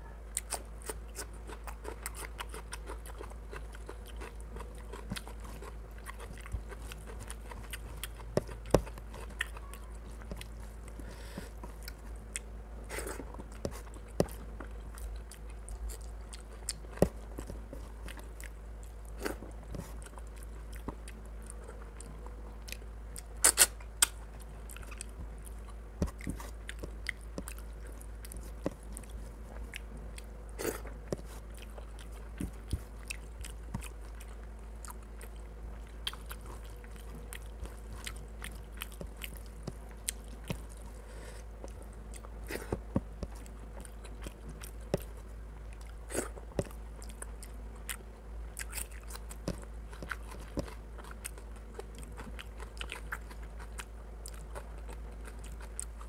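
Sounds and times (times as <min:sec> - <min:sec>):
chewing: 0:00.3 - 0:56.0.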